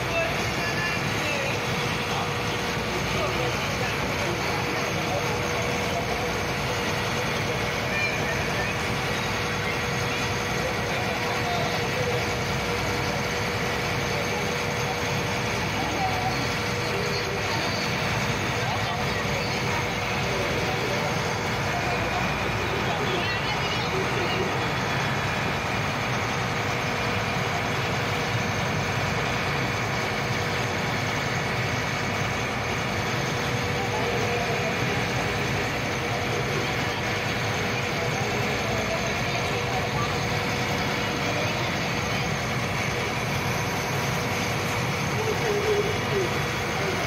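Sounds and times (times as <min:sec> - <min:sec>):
boat engine humming: 0:00.0 - 0:47.0.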